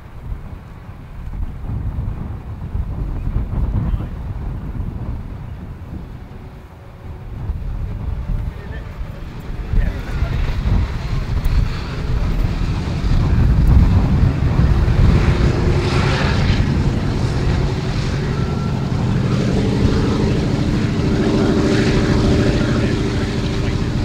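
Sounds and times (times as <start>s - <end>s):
propeller aircraft engines rumbling: 0.0s - 24.0s.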